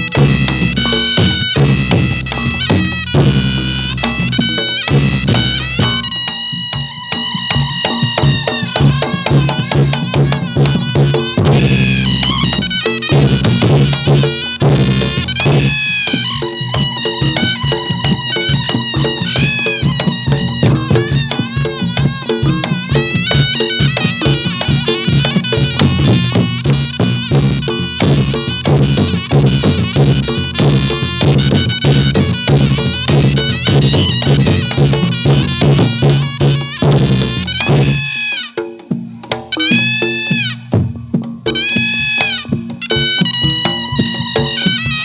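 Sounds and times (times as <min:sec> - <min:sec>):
driving drum rhythm: 0:00.0 - 0:45.0
shawm melody: 0:00.0 - 0:45.0.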